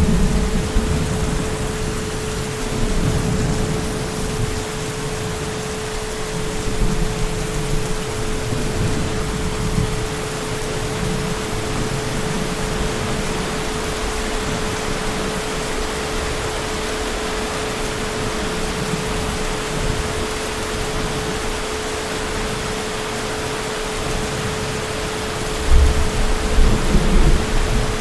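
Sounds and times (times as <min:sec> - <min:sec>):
heavy rain hissing: 0:00.0 - 0:28.0.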